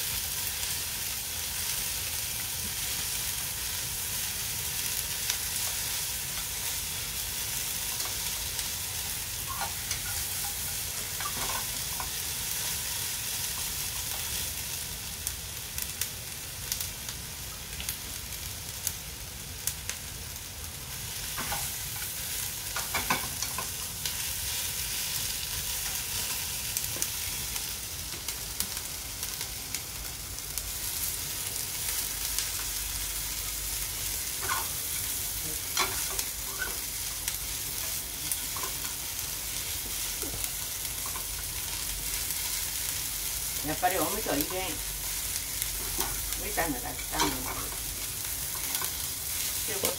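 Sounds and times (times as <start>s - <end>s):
food sizzling in a frying pan: 0.0s - 49.9s.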